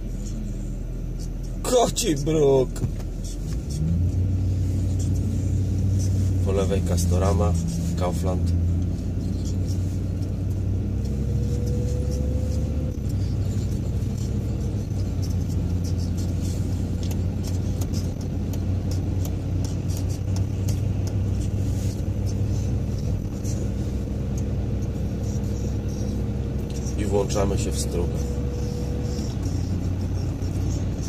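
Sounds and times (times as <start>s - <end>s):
engine and tyre rumble: 0.0s - 31.0s
light irregular ticks: 2.8s - 31.0s.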